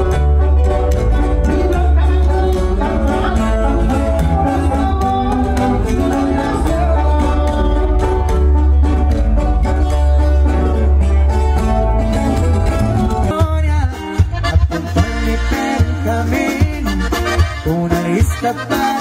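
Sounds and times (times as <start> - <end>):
guitars over heavy bass line: 0.0 - 19.0.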